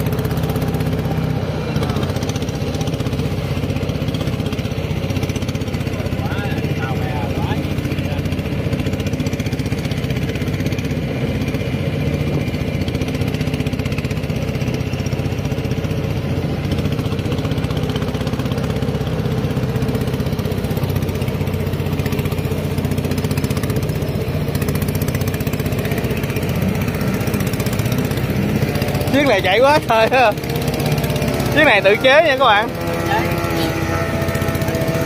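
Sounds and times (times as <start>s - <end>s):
small boat engine running: 0.0s - 35.0s.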